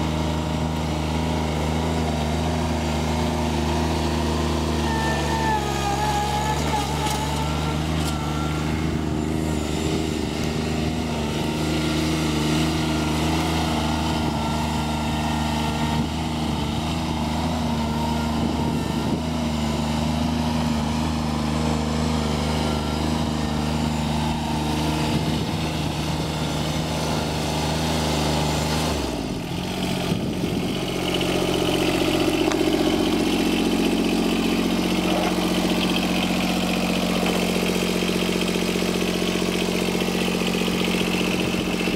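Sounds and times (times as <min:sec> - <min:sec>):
diesel mower engine running: 0:00.0 - 0:41.9.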